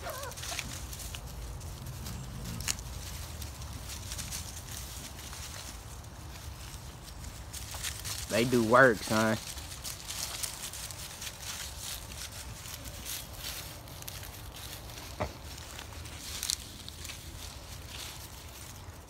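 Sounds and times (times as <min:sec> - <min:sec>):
footsteps on dry leaves: 0:00.0 - 0:19.0.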